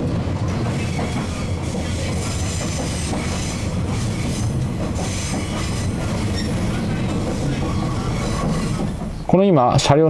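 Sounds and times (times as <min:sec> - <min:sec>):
rumble of train wheels on track: 0:00.0 - 0:10.0
high wheel squeal: 0:00.7 - 0:09.4.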